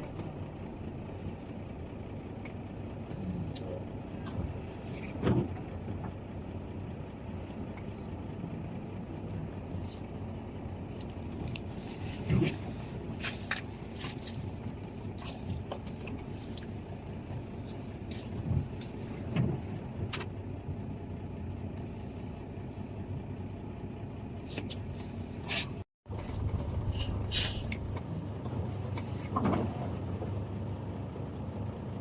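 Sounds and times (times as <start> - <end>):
large vehicle engine rumbling: 0.0 - 32.0.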